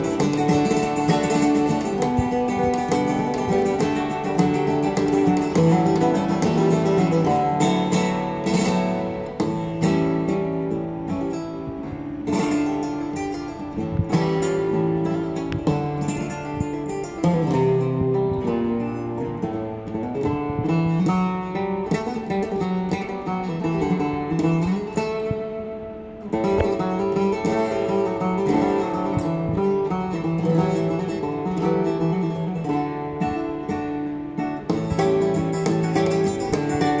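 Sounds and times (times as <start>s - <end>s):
guitar music through speakers: 0.0s - 37.0s.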